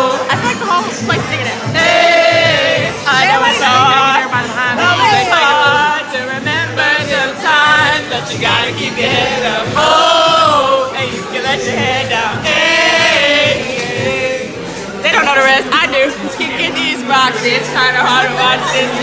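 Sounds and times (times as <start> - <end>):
group of people singing: 0.0 - 19.0
recorded music: 0.0 - 19.0.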